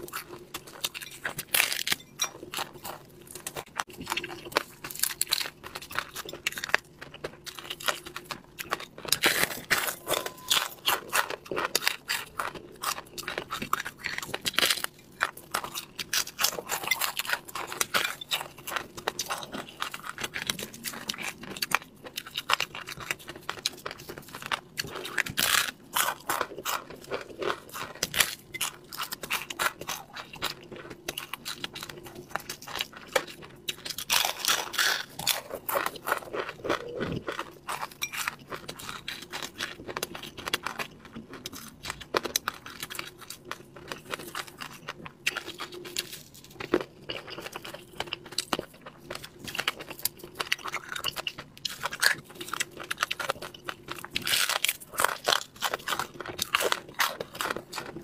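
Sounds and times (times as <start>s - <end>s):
person crunching crispy fish: 0.0s - 58.0s.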